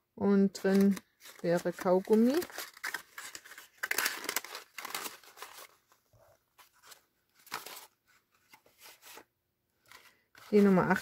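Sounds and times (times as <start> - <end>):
paper box rustling and crinkling: 0.6 - 11.0.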